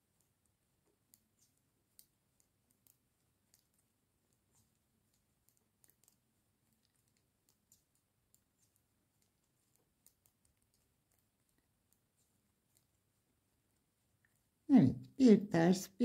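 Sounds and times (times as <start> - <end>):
knitting needles clicking: 0.0 - 13.3.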